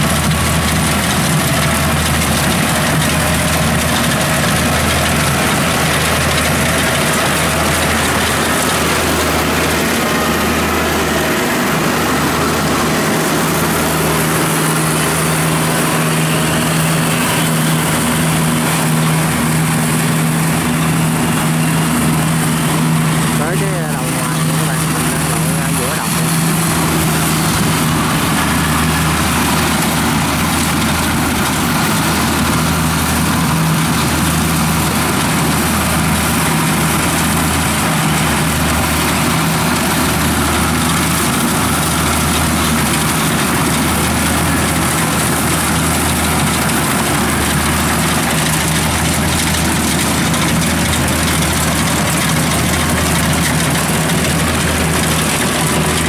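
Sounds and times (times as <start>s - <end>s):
diesel engine low hum: 0.0s - 56.0s.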